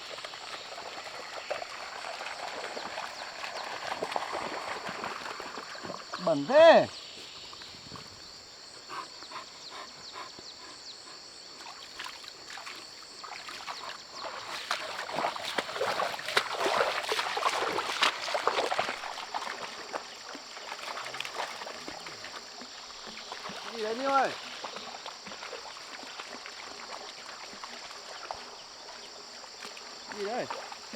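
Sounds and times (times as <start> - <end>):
rustling through wet grass: 0.0 - 8.6, 11.5 - 30.9.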